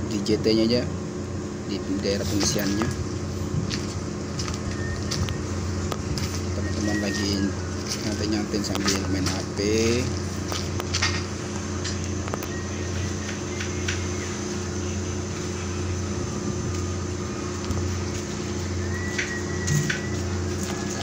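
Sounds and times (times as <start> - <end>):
ship machinery droning: 0.0 - 21.0.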